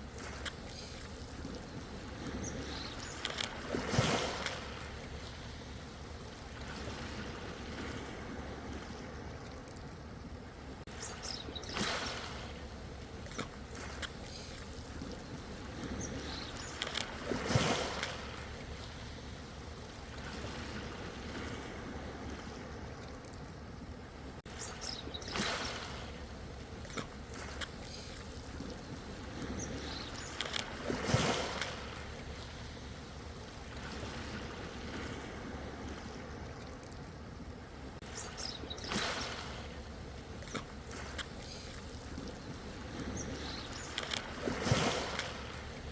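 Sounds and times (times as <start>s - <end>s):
ocean waves washing in: 0.0s - 9.4s, 10.4s - 23.0s, 24.1s - 45.9s.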